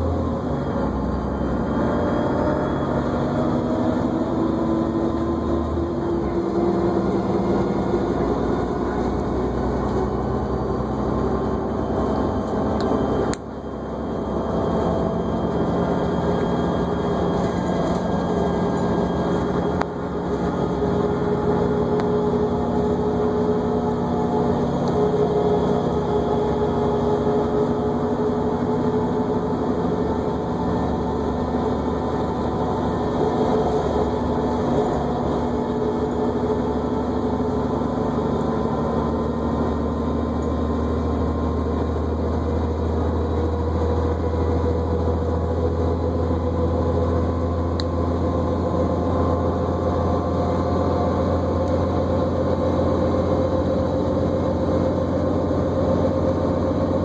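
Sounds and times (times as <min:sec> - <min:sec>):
bus engine rumble: 0:00.0 - 0:57.0
steady whine: 0:00.0 - 0:57.0.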